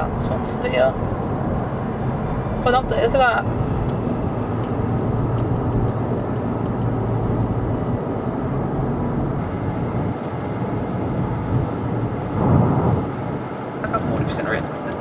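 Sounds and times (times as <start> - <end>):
vehicle rumble and hum from inside: 0.0 - 15.0.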